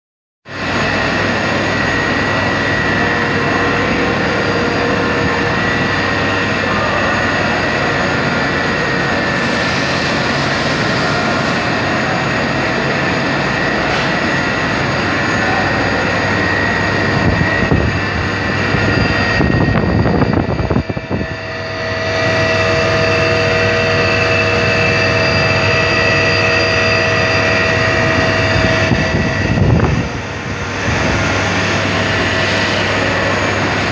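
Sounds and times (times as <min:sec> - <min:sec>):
milling machine spindle whining: 0:00.5 - 0:33.9.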